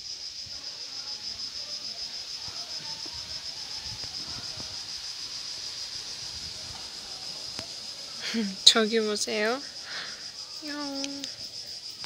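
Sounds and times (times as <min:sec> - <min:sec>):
shrill insect chorus: 0:00.0 - 0:12.0.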